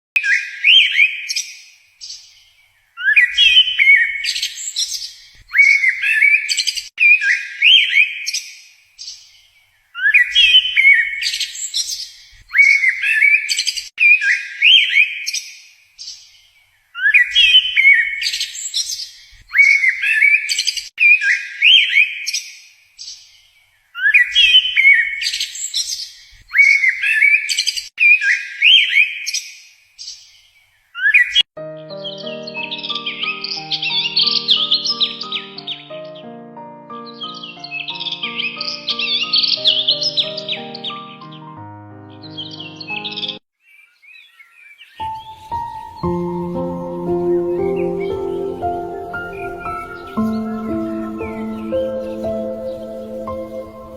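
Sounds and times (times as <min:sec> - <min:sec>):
songbird singing: 0:00.2 - 0:15.3, 0:16.0 - 0:22.3, 0:24.0 - 0:29.3, 0:30.0 - 0:53.9.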